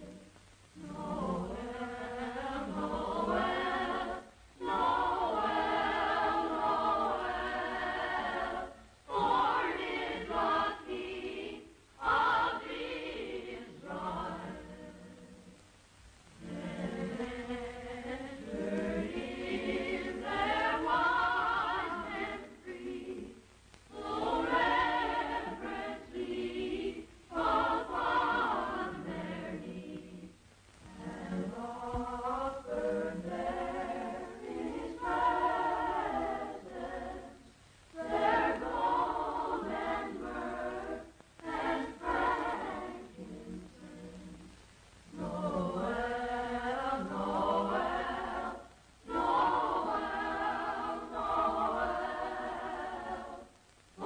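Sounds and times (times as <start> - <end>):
boys' choir singing: 0.8 - 15.6, 16.4 - 44.5, 45.1 - 53.5.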